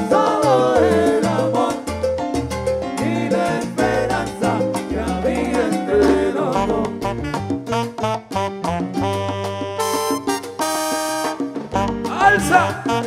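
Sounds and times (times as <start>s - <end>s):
bass line: 0.0s - 13.0s
congas: 0.0s - 13.0s
salsa band playing: 0.0s - 13.0s
bending melody line: 2.2s - 13.0s.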